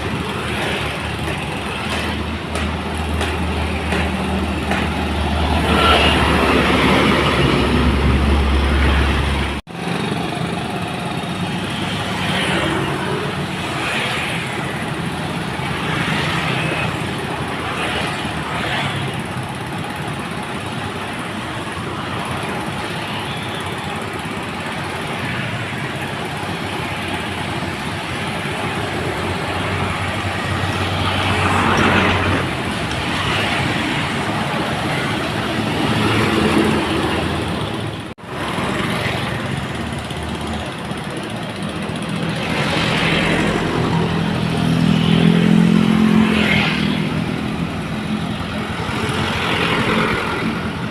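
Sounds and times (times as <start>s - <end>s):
trucks and traffic passing: 0.0s - 50.9s.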